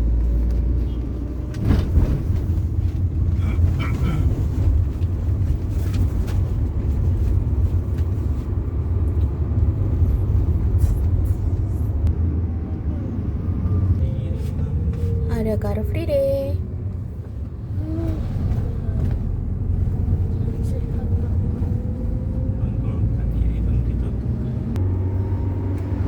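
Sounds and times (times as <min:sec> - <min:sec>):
road noise: 0:00.0 - 0:26.0
vehicle engine: 0:00.0 - 0:26.0.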